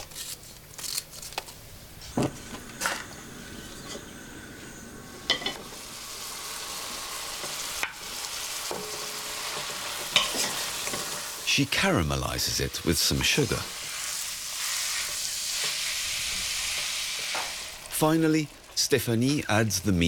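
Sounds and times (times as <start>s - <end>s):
food sizzling in a pot: 1.8s - 20.0s.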